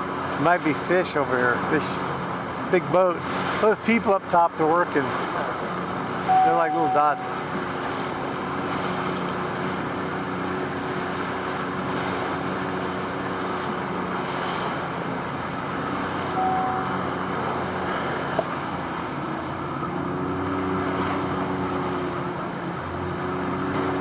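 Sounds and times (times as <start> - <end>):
boat engine humming: 0.0 - 24.0
wind and water hiss: 0.0 - 24.0.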